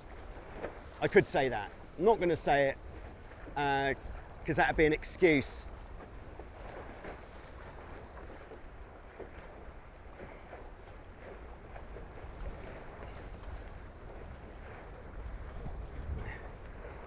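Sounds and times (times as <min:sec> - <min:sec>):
water splashing against hulls: 0:00.0 - 0:17.0
wind rumbling on microphone: 0:00.0 - 0:17.0.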